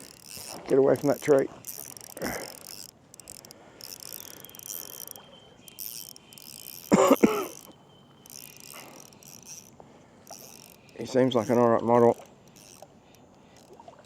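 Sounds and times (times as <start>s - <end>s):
fishing reel gears ratcheting: 0.0s - 14.0s.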